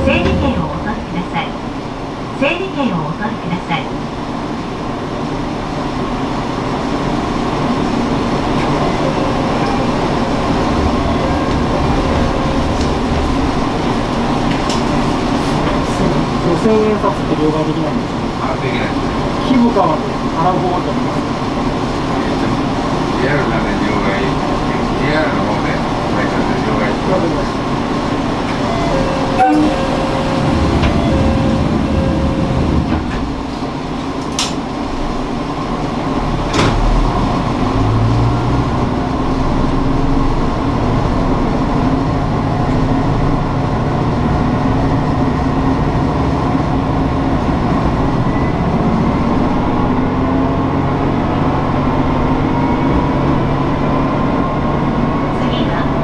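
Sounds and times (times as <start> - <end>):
train wheels on rails: 0.0 - 2.7, 3.8 - 56.0
diesel railcar engine hum: 0.0 - 56.0.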